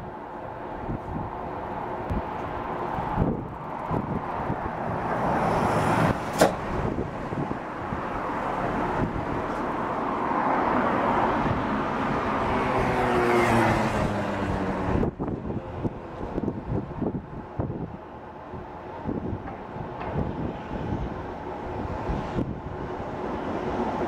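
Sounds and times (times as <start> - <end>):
rumble of trains: 0.0 - 24.0.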